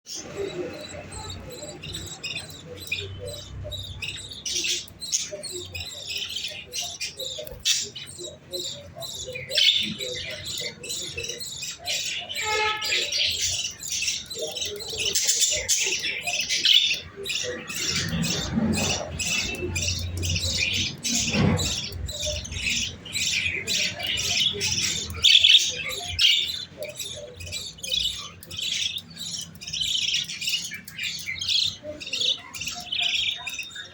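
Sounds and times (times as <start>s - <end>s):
chicks chirping and squawking: 0.1s - 33.9s.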